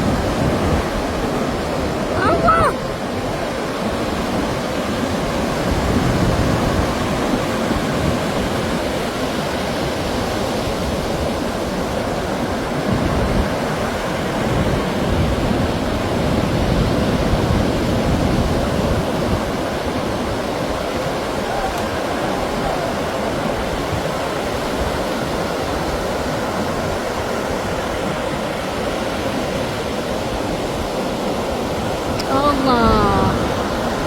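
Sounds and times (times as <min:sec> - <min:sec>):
wind buffeting microphone: 0:00.0 - 0:32.3.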